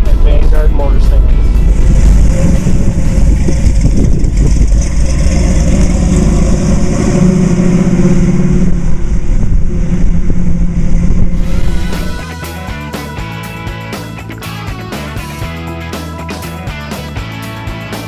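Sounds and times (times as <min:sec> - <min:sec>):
road and wind noise: 0:00.0 - 0:15.6
car engine running: 0:00.0 - 0:18.0.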